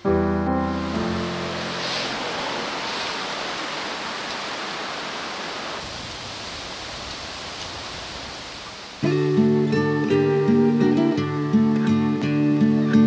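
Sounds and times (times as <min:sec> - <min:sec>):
running water rushing: 0:00.7 - 0:12.8.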